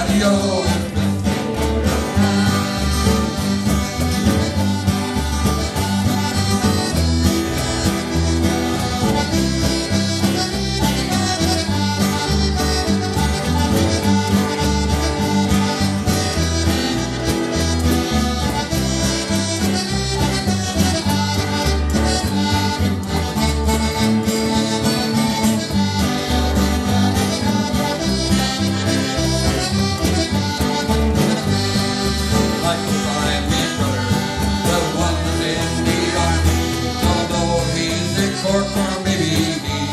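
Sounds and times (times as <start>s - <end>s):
button accordion: 0.0s - 39.9s
live band playing upbeat tune: 0.0s - 39.9s.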